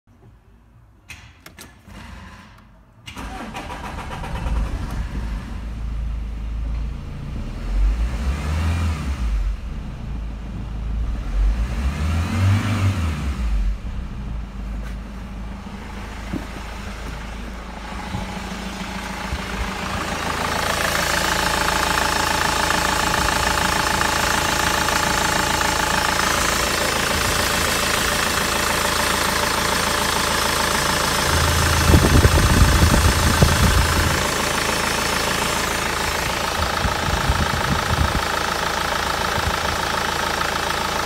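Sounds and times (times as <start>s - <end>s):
diesel engine starting and revving: 1.9s - 41.0s.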